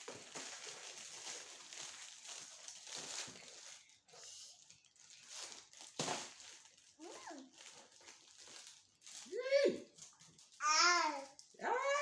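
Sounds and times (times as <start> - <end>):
packaging rustling: 0.0 - 11.5.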